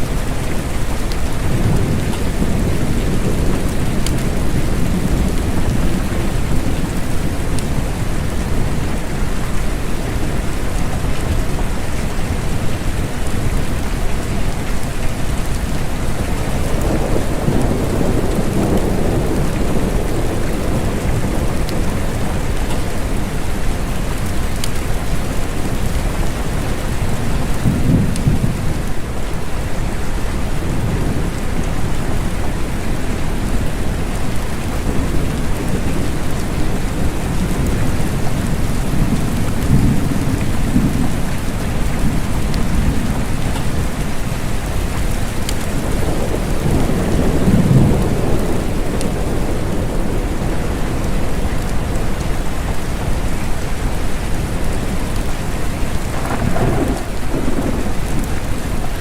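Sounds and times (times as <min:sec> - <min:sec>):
steady rain: 0:00.0 - 0:59.0
distant thunder rumble: 0:00.2 - 0:11.9, 0:15.5 - 0:29.2, 0:30.6 - 0:53.2, 0:54.4 - 0:59.0.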